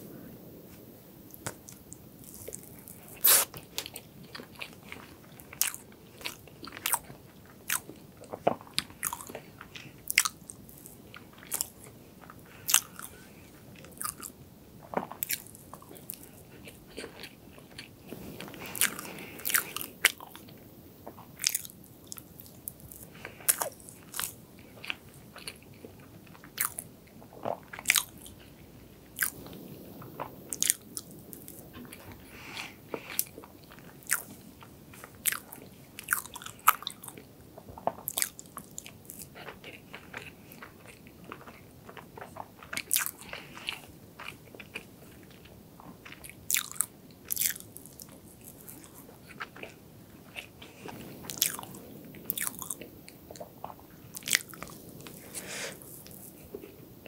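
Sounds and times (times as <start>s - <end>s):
wet chewing with clicks: 1.3s - 13.2s, 13.8s - 28.6s, 29.2s - 57.0s.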